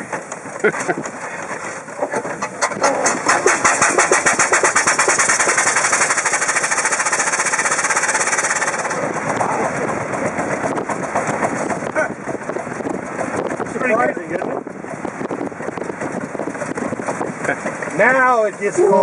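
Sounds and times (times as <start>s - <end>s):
steam exhaust chuffing: 2.4s - 19.0s.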